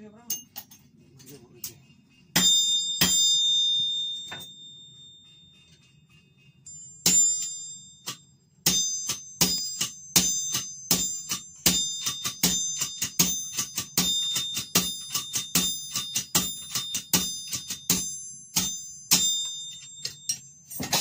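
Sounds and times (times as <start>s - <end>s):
hammer ringing on anvil: 0.0s - 21.0s.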